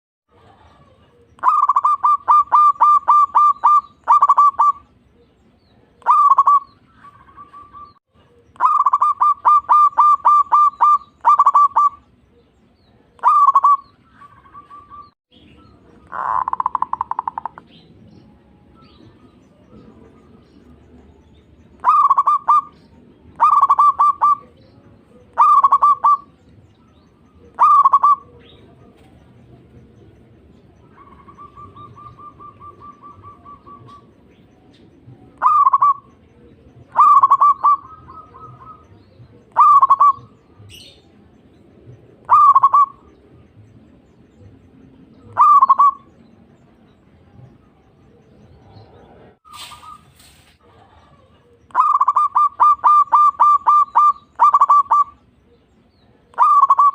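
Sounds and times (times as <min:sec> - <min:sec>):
dove cooing: 0:00.3 - 0:15.2, 0:15.8 - 0:17.8, 0:21.7 - 0:43.2, 0:45.1 - 0:46.2, 0:47.4 - 0:56.9.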